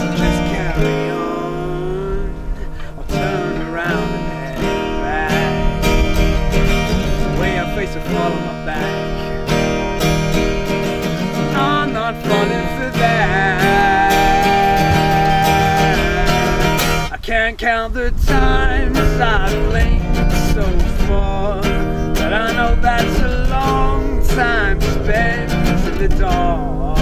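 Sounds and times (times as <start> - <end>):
acoustic guitar strumming: 0.0 - 27.0
man singing: 0.0 - 27.0.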